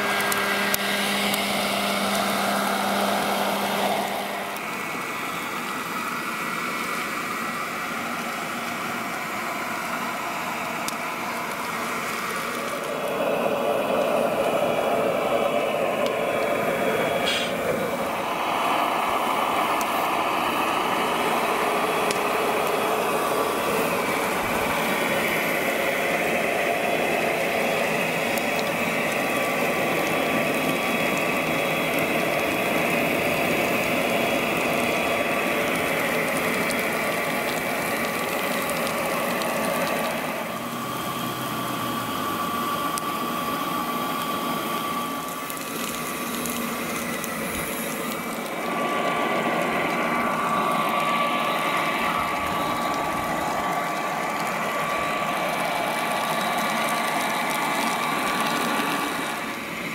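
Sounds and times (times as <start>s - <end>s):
small electric water pumps whirring: 0.0s - 59.9s.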